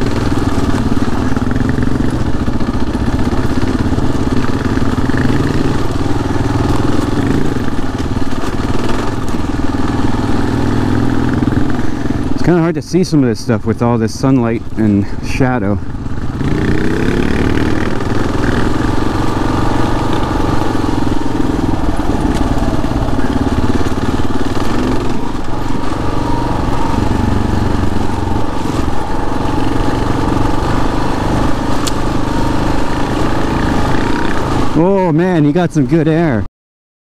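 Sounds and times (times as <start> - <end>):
motorcycle engine running: 0.0 - 36.5.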